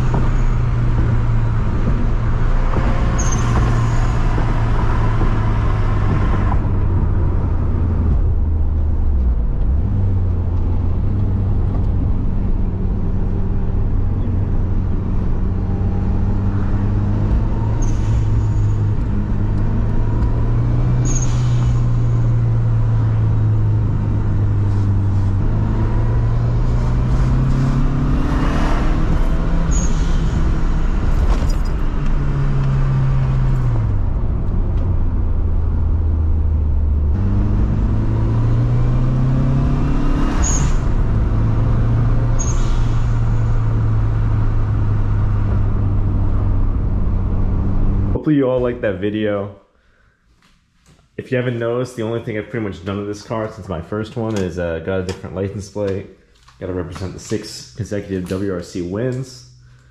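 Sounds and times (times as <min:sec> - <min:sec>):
car engine revving: 0:00.0 - 0:48.2.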